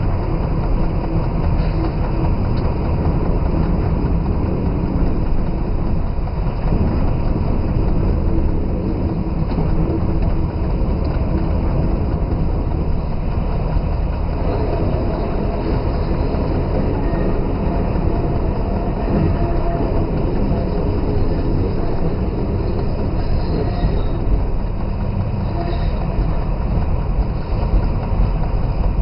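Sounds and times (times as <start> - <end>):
locomotive diesel engine rumbling: 0.0 - 29.0.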